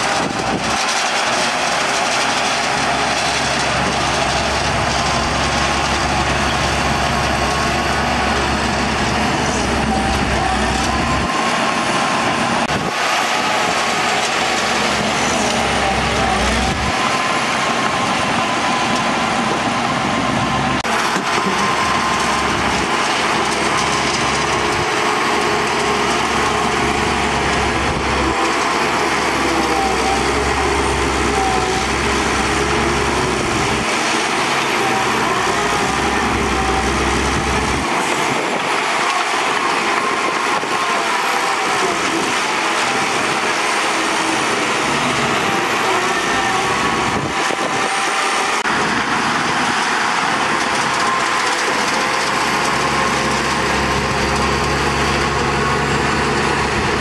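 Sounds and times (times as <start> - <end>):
bulldozer engine and tracks: 0.0 - 57.0.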